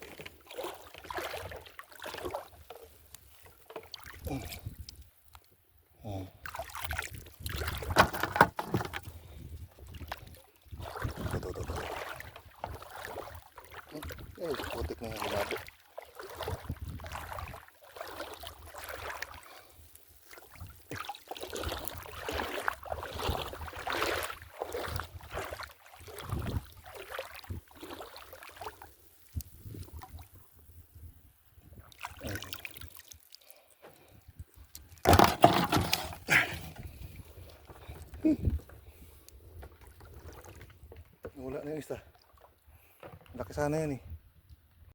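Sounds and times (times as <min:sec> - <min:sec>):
water sloshing and splashing: 0:00.0 - 0:05.5, 0:06.4 - 0:30.4, 0:31.7 - 0:43.6.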